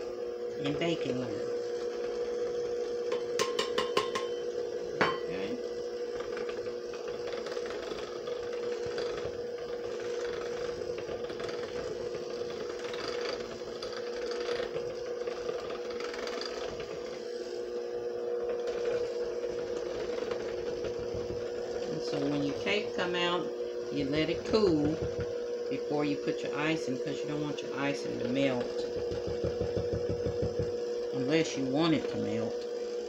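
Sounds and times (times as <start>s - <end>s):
electric hand mixer whine: 0.0s - 33.0s.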